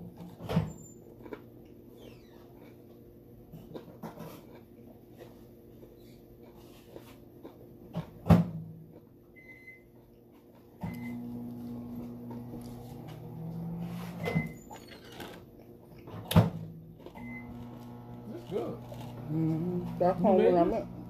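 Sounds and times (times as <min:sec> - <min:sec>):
appliance humming: 0:00.0 - 0:21.0.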